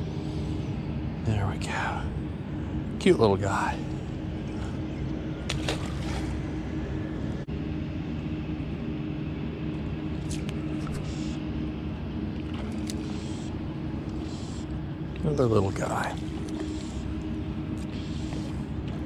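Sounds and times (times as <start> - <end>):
low motor drone: 0.0 - 19.0.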